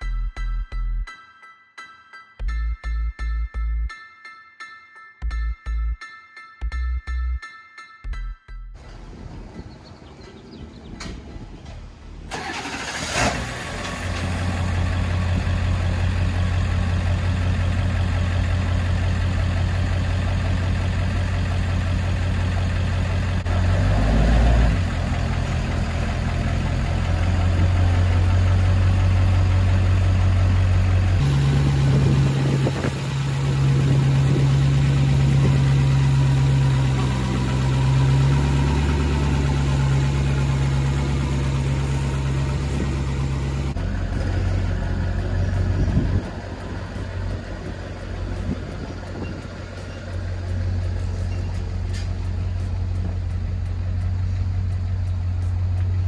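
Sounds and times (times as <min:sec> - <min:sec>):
diesel truck engine idling: 0:08.8 - 0:56.0.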